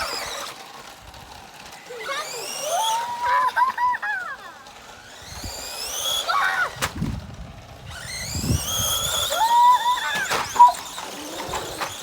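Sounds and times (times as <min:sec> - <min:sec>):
rc car motor whining: 0:00.0 - 0:12.0.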